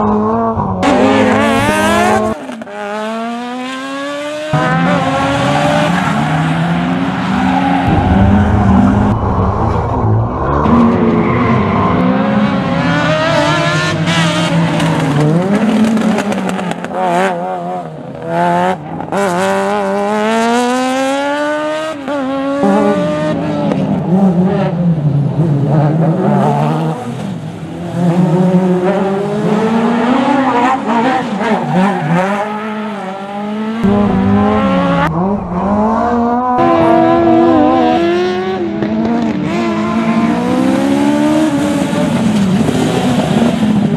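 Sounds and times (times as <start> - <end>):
rally car engine at full throttle: 0.0 - 43.9.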